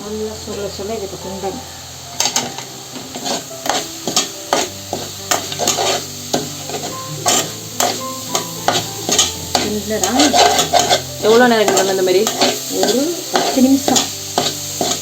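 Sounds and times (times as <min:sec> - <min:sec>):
light sizzle: 0:00.0 - 0:15.0
ladle scraping a pan: 0:02.1 - 0:15.0.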